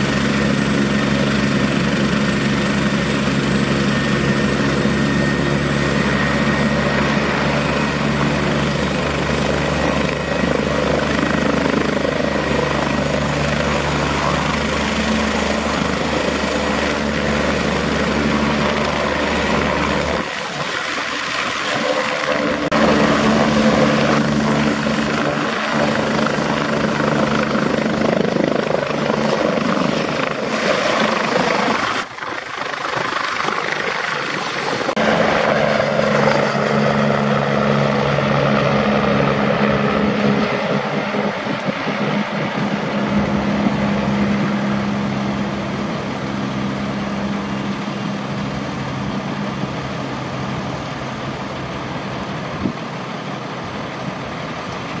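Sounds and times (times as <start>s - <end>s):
helicopter turbine whine and rotor: 0.0s - 55.0s.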